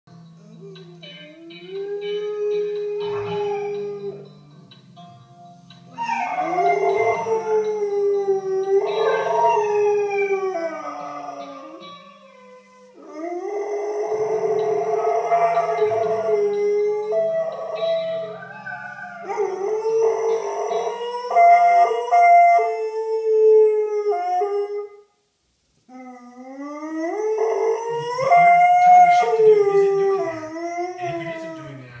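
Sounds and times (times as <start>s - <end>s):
quiet music: 0.1s - 32.0s
dog howling: 0.4s - 4.2s, 6.0s - 25.0s, 25.9s - 31.9s.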